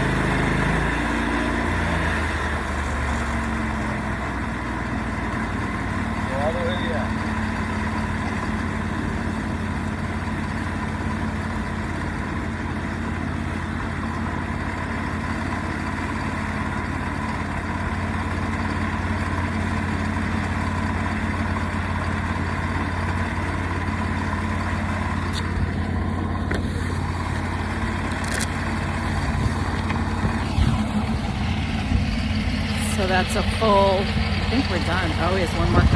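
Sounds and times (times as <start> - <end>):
sawmill engine sawing log: 0.0 - 35.9.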